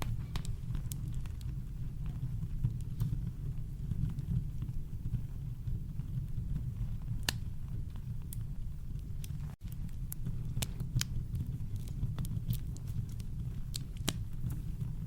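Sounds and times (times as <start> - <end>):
campfire pops and snaps: 0.0 - 15.0.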